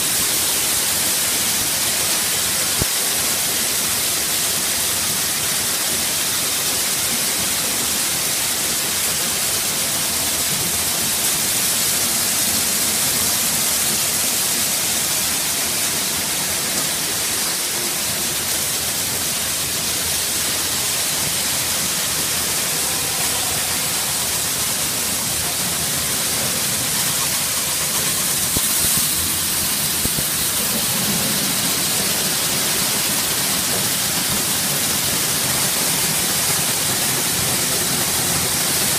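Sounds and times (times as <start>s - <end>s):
sorting machine hissing: 0.0s - 38.9s.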